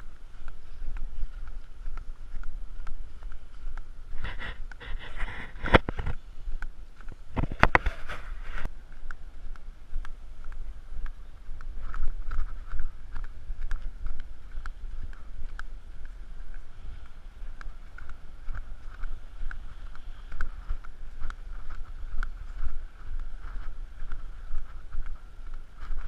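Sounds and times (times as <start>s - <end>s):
footsteps on grass: 0.0s - 26.0s
wind rumbling on microphone: 0.0s - 26.0s.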